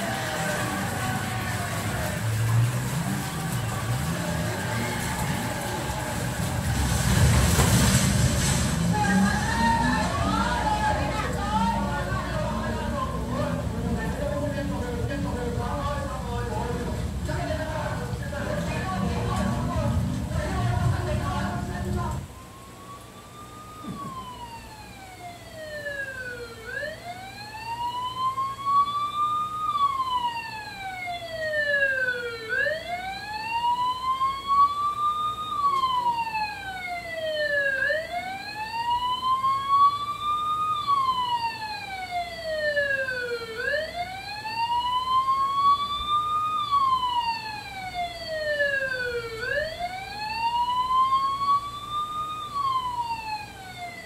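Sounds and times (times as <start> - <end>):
emergency siren wailing: 0.0 - 54.0.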